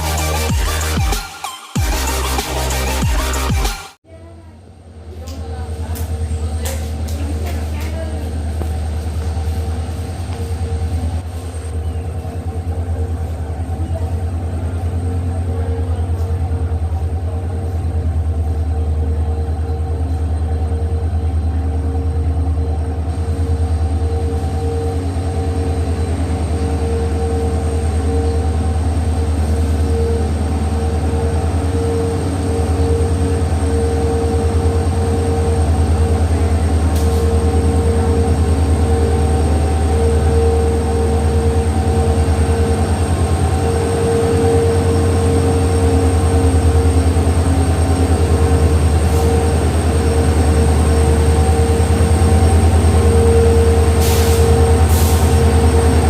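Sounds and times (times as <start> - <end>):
diesel locomotive engines humming: 0.0 - 56.0
locomotive whine: 0.0 - 56.0.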